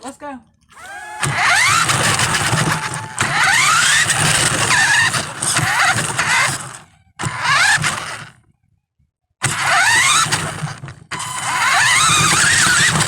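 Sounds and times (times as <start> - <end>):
small electric motors whining: 0.7 - 8.4, 9.4 - 13.0.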